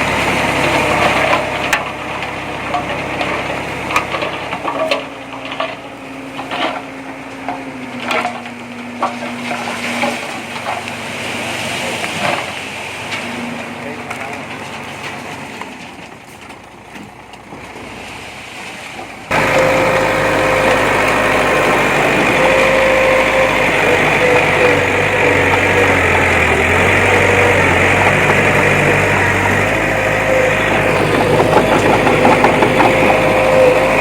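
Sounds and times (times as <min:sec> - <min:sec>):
diesel engine running: 0:00.0 - 0:17.8, 0:19.2 - 0:34.0.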